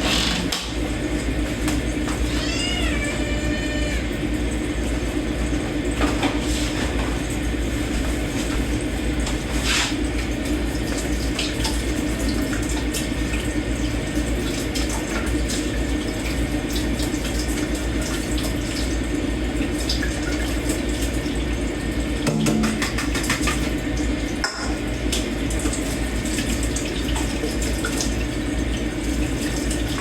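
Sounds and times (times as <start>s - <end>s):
tap water running into sink: 0.0s - 30.0s.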